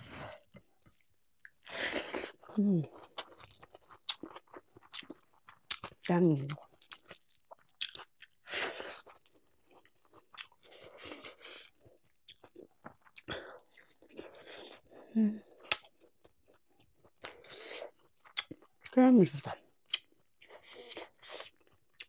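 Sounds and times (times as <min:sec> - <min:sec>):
wet chewing: 0:00.1 - 0:14.9, 0:15.5 - 0:18.9, 0:19.8 - 0:22.0.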